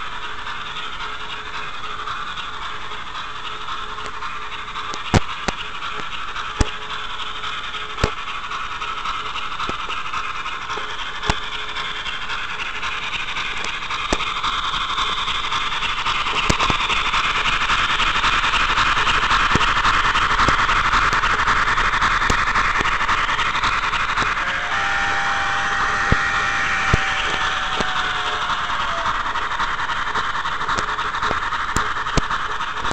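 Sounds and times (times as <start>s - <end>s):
model train rolling on track: 0.0s - 32.9s.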